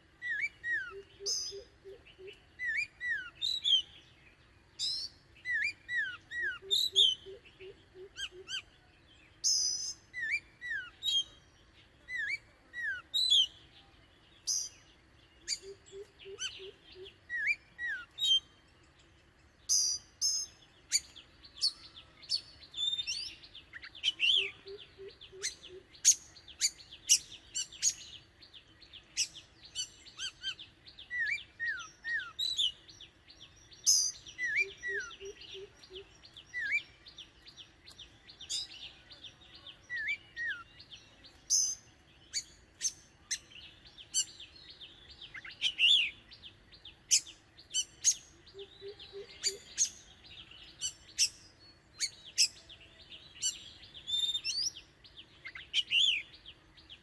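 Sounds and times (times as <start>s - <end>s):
bird singing chirps and whistles: 0.2s - 19.0s, 19.6s - 57.0s.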